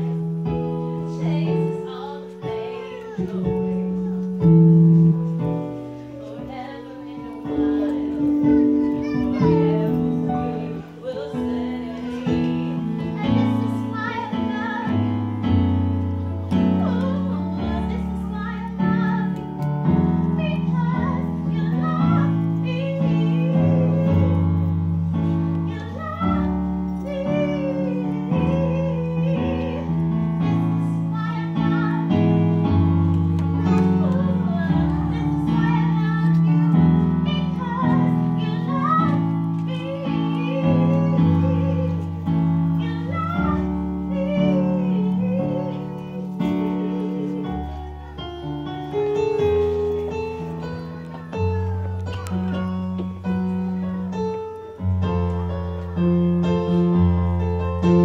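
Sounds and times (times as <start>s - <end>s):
woman singing: 1.0s - 5.4s, 6.0s - 15.6s, 16.2s - 52.7s.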